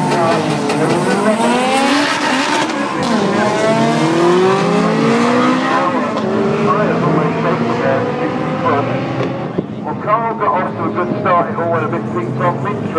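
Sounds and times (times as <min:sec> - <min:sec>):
drag race cars accelerating: 0:00.0 - 0:12.9.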